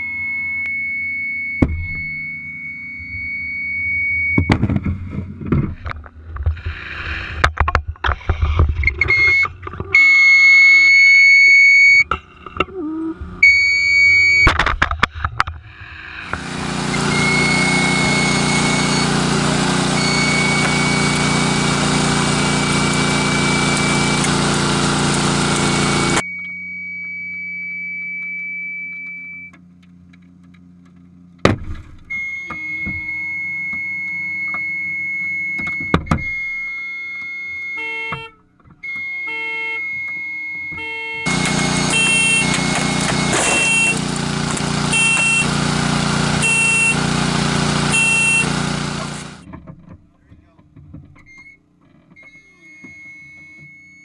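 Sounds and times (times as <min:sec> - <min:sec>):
hydraulic spreaders whining: 0:00.0 - 0:29.6, 0:30.4 - 0:54.0.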